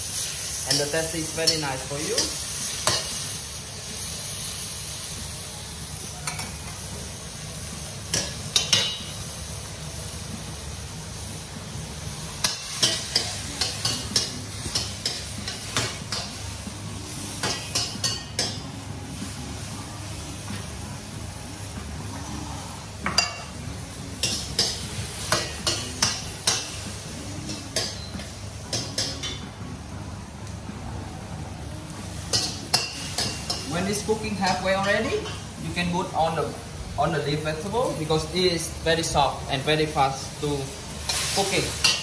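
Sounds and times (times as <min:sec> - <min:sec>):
sizzling in a pan: 0:00.0 - 0:42.0.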